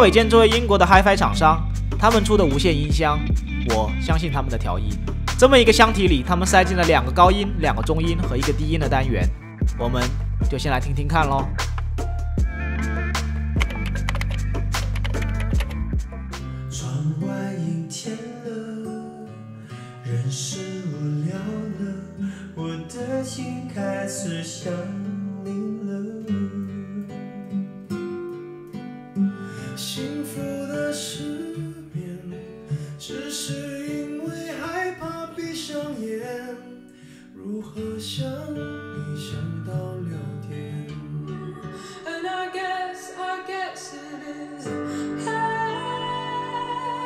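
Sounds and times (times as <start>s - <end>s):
person singing: 0.0s - 11.7s, 12.6s - 15.9s, 16.6s - 27.2s, 29.3s - 47.0s
guitar-led music through speaker: 0.0s - 43.3s, 44.6s - 47.0s.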